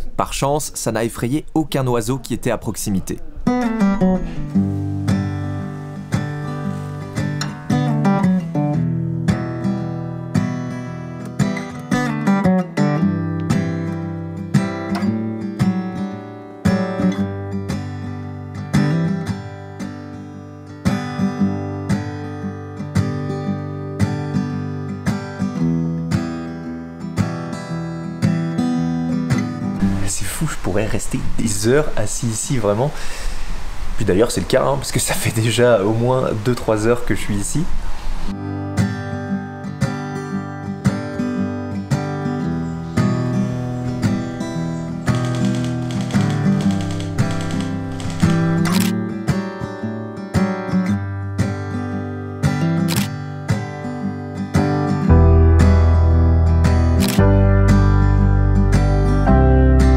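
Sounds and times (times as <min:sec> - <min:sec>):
acoustic guitar strumming chords: 0:03.2 - 0:30.8, 0:38.0 - 0:59.9.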